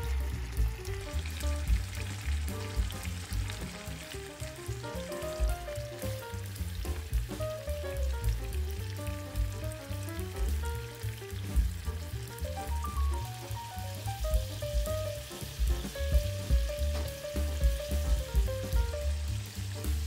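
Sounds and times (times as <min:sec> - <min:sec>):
beef sizzling in frying pan: 0:00.0 - 0:20.0
light background music: 0:00.0 - 0:20.0.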